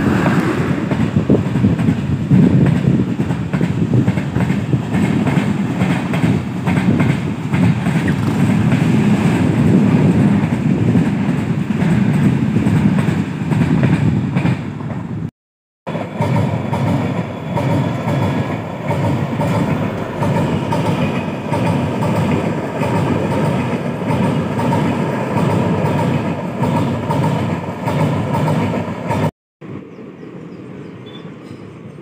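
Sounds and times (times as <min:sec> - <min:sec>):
train rumbling with wheel clatter: 0:00.0 - 0:15.3, 0:15.9 - 0:29.3.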